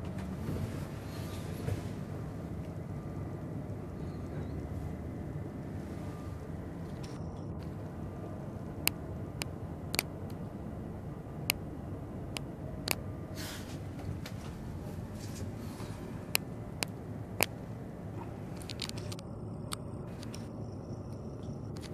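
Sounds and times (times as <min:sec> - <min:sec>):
cable car gondola rumble: 0:00.0 - 0:21.9.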